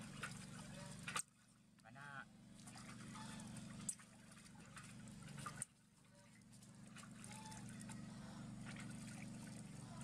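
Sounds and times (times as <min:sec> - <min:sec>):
water splashing and dripping: 0:00.0 - 0:01.5, 0:02.5 - 0:08.0, 0:08.6 - 0:10.0.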